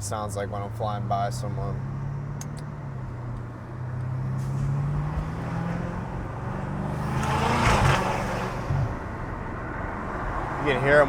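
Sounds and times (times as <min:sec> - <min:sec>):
car engine accelerating: 0:00.5 - 0:11.0.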